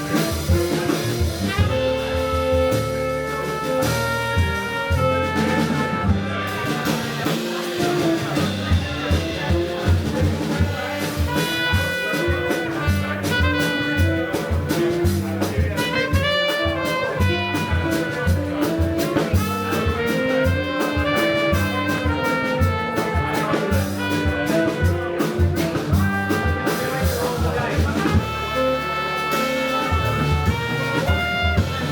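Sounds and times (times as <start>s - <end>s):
bass line: 0.0s - 31.9s
drum and cymbal strikes: 0.0s - 31.9s
jazz band playing: 0.0s - 31.9s.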